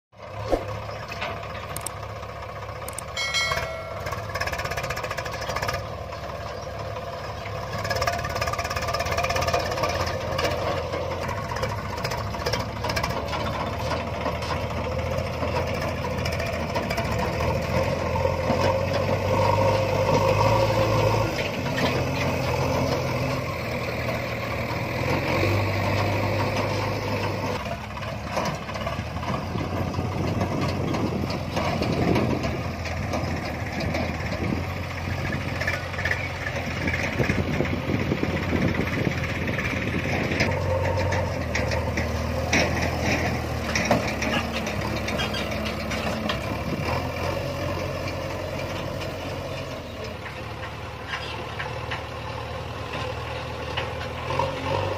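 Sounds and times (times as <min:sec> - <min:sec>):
tractor diesel engine under load: 0:00.2 - 0:54.9.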